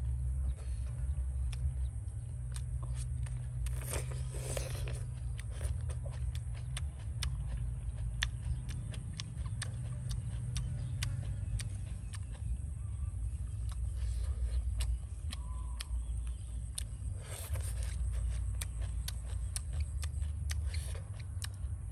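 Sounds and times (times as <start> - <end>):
chewing with mouth clicks: 0.0 - 21.9
low steady rumble: 0.0 - 21.9
lip smacks: 0.3 - 21.9.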